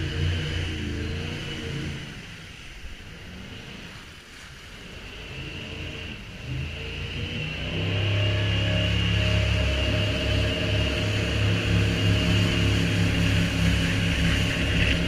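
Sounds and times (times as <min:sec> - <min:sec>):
jet boat engine: 0:00.0 - 0:15.0
water rushing: 0:00.0 - 0:15.0
wind: 0:00.0 - 0:15.0.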